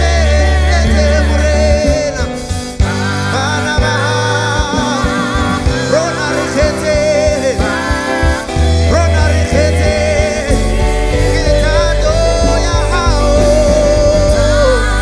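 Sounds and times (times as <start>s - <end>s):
bass guitar: 0.0s - 15.0s
drums: 0.0s - 15.0s
keyboard: 0.0s - 15.0s
voices singing: 0.0s - 15.0s.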